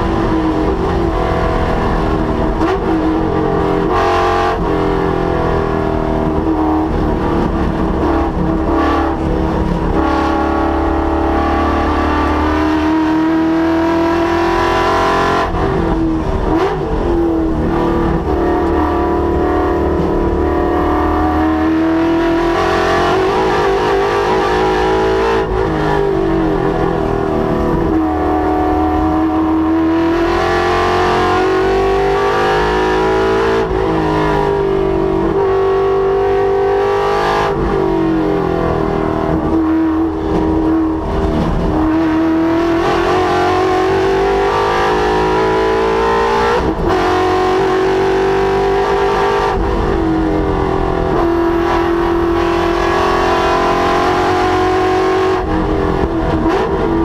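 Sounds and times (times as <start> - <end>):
car engine revving on race track: 0.0 - 57.0.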